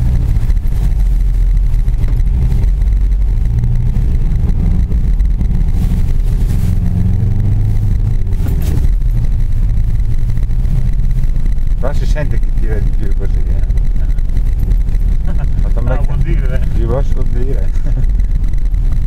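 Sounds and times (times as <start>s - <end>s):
car engine from inside cabin: 0.0s - 19.0s.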